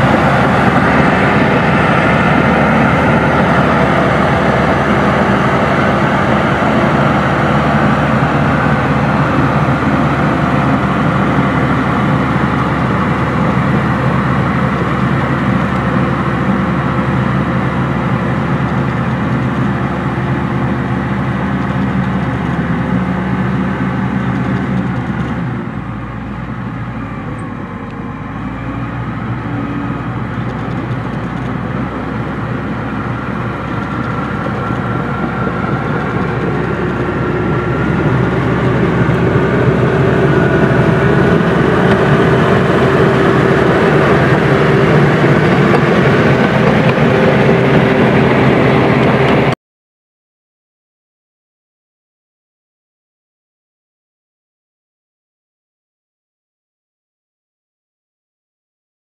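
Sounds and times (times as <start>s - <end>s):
bulldozer diesel engine: 0.0s - 49.6s.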